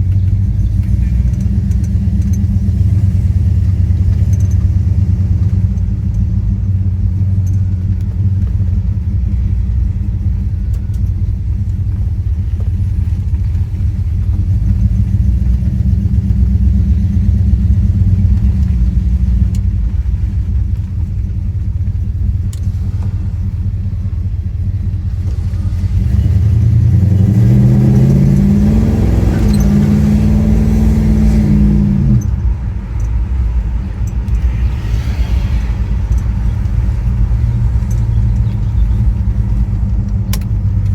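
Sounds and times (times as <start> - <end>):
car engine rumbling: 0.0 - 40.9.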